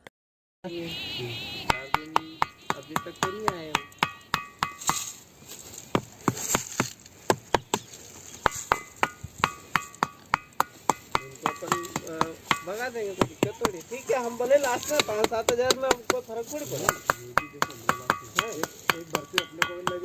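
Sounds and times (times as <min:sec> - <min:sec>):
ringing rock being struck: 0:01.7 - 0:05.2, 0:06.0 - 0:13.8, 0:14.9 - 0:20.0.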